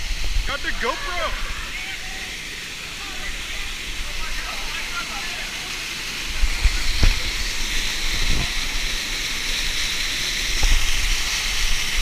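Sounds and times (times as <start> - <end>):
waterfall rushing onto rock: 0.0 - 12.0.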